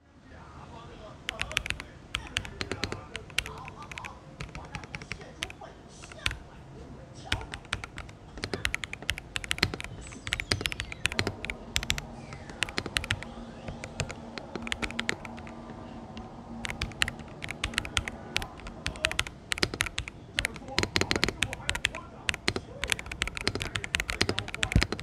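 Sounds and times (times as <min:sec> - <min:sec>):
mechanical keyboard typing: 0:01.3 - 0:06.5, 0:07.3 - 0:25.0.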